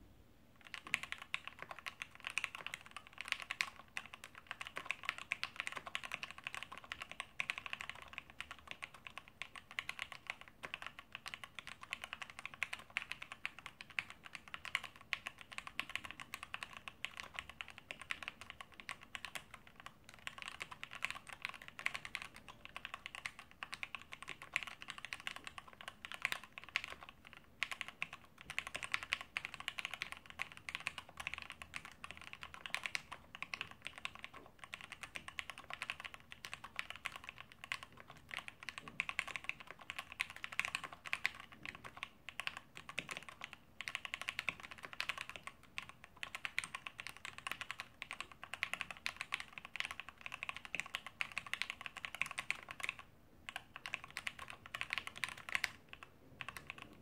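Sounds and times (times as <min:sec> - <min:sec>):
fast mechanical keyboard typing: 0:00.6 - 0:57.0.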